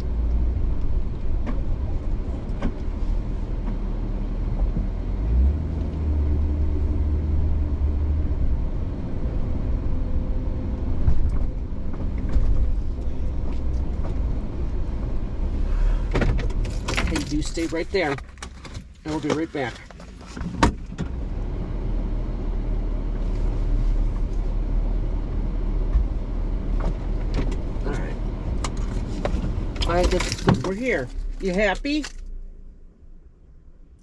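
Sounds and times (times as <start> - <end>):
camper van engine rumble: 0.0 - 34.0
road noise: 0.0 - 34.0.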